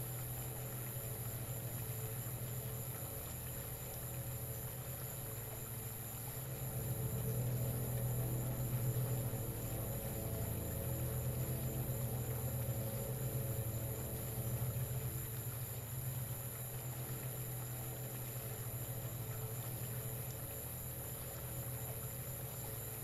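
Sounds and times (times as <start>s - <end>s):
low droning hum with flutter: 0.0s - 23.0s.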